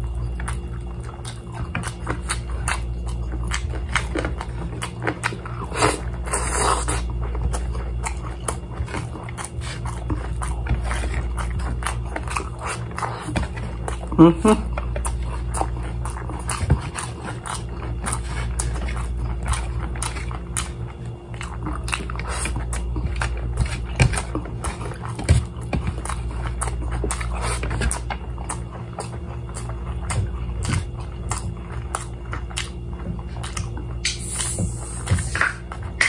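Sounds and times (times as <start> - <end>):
chewing and crunching: 0.0 - 36.0
steady low hum: 0.0 - 36.0.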